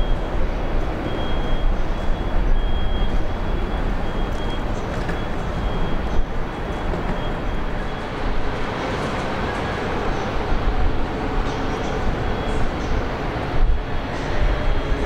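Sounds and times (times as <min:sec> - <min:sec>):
faint high whine: 0:00.0 - 0:15.0
vehicle rumble and road noise: 0:00.0 - 0:15.0.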